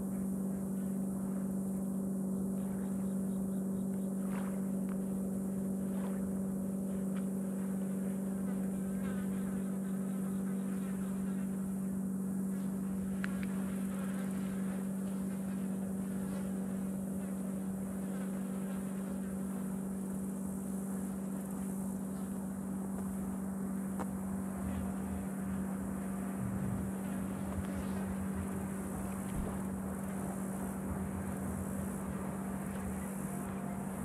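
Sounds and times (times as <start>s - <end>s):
low motor hum: 0.0s - 34.0s.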